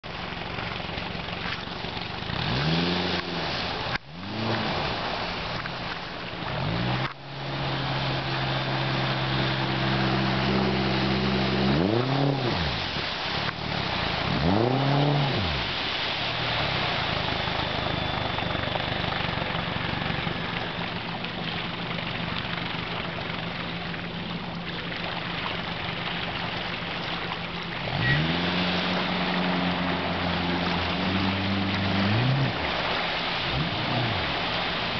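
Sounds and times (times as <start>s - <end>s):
outboard motor revving: 0.1s - 34.9s.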